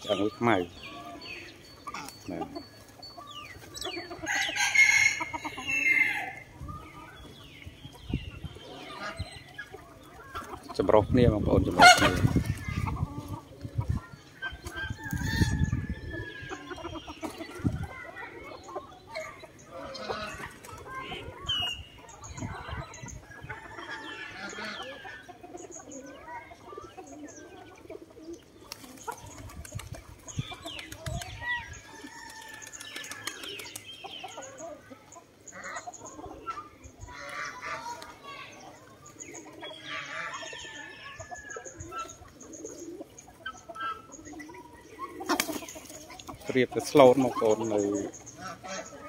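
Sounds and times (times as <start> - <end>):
chicken clucking: 0.0 - 49.0
farmyard fowl and pigeons calling: 0.0 - 49.0.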